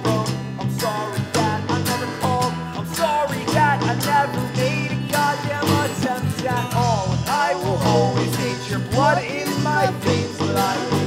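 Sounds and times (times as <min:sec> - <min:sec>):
bass guitar: 0:00.0 - 0:11.0
man singing: 0:00.0 - 0:11.0
strummed acoustic guitars: 0:00.0 - 0:11.0.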